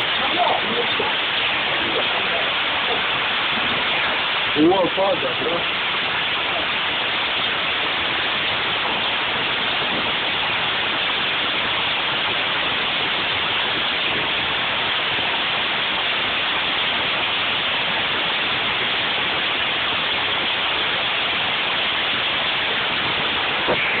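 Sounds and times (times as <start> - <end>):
heavy rain and hail: 0.0 - 24.0.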